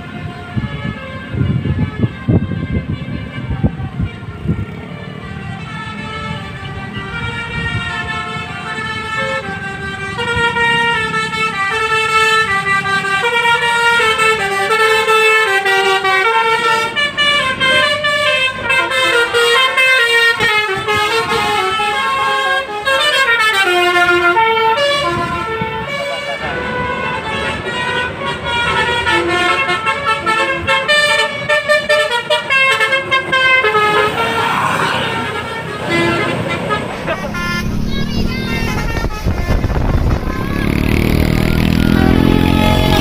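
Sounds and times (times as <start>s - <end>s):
musical bus horn melody: 0.0s - 43.0s.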